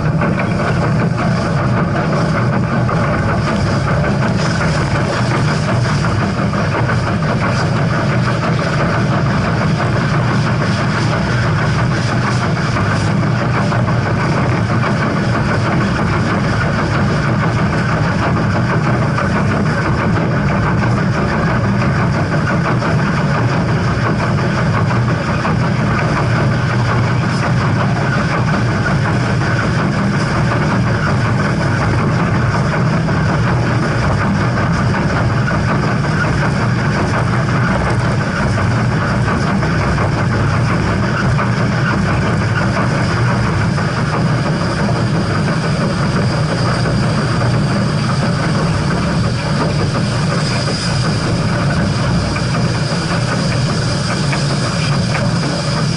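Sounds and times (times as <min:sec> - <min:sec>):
steam train rumbling and rattling: 0:00.0 - 0:55.9.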